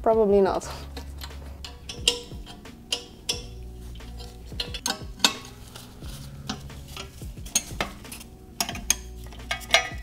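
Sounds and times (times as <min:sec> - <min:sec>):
metal tools clinking on bolts: 0:00.9 - 0:05.6, 0:06.2 - 0:10.0.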